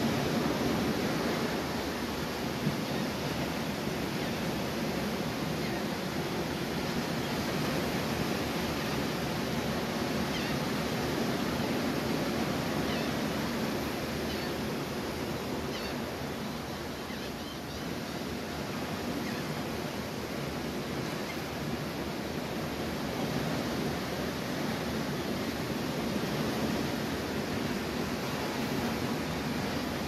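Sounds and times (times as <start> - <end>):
ocean surf breaking: 0.0 - 17.0, 18.0 - 30.0.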